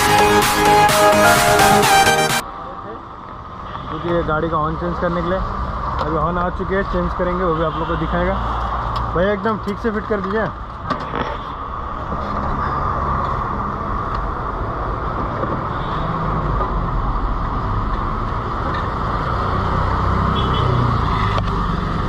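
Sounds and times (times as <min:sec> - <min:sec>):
road traffic: 0:00.0 - 0:22.0.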